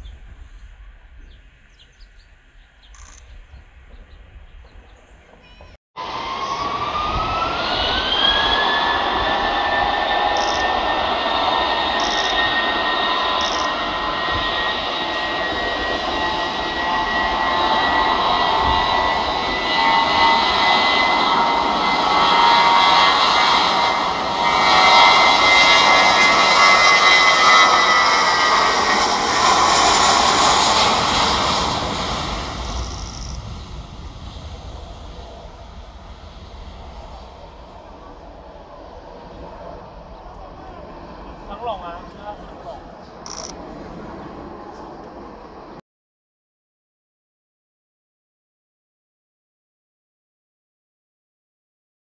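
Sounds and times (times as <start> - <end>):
jet airliner engine whine: 0.0 - 45.8
jet engine roar: 0.0 - 45.8.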